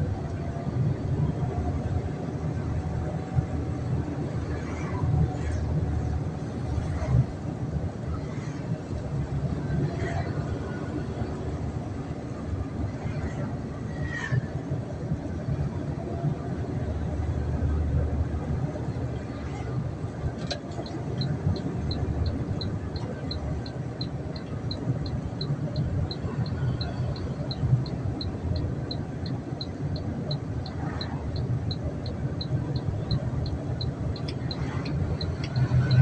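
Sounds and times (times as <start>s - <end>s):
engine and road rumble in cabin: 0.0s - 36.0s.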